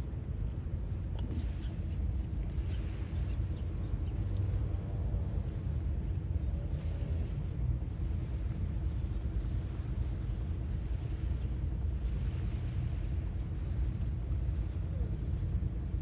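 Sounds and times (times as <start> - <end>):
sea waves washing in: 0.0 - 16.0
steady low rumble: 0.0 - 16.0.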